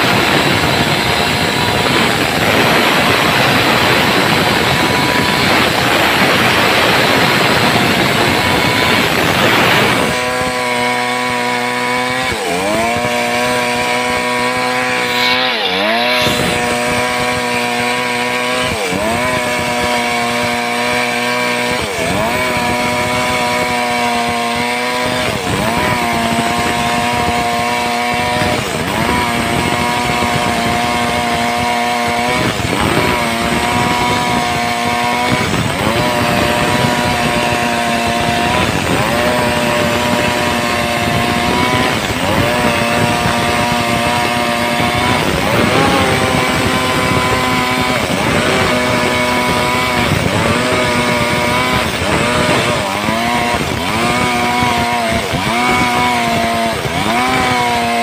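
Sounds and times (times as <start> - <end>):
chainsaw cutting a log: 0.0 - 58.0.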